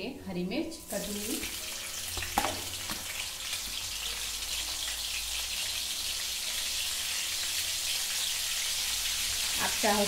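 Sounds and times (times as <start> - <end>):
chillies sizzling in hot oil: 0.4 - 10.0.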